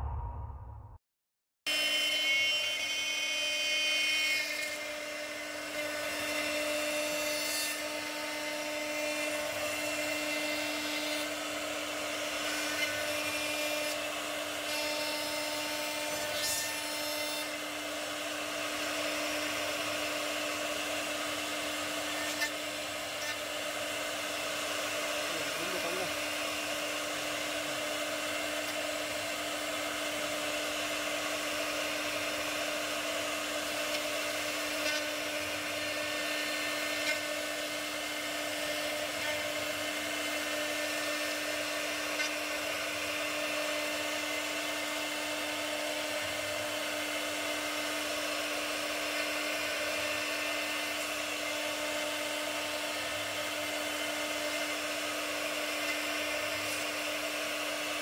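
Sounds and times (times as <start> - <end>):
drilling spindle whine: 7.8 - 58.0.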